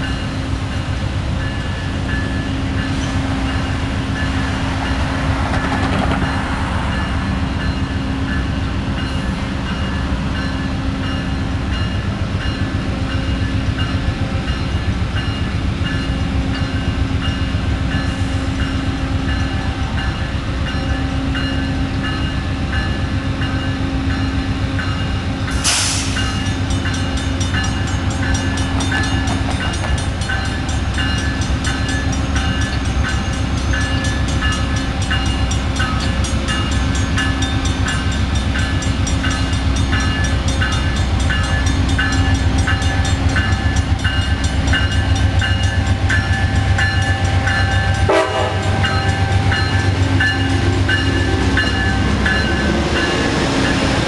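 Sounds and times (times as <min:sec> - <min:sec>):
diesel locomotive engine rumble: 0:00.0 - 0:54.0
level-crossing warning bell: 0:00.0 - 0:54.0.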